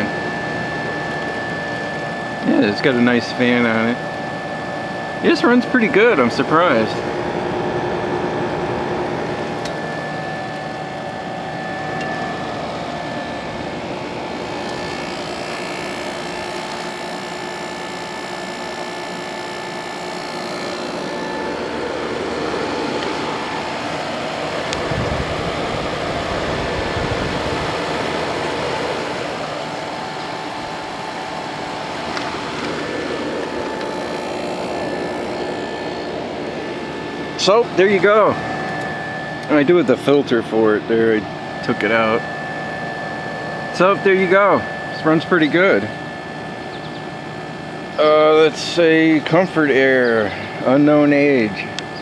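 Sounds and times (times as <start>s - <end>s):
air conditioner running: 0.0s - 52.0s.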